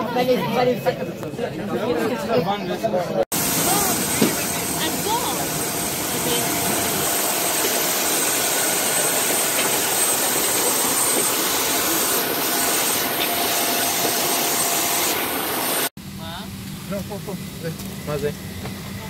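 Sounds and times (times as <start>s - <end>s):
jet turbine hiss and whine: 3.3s - 19.0s.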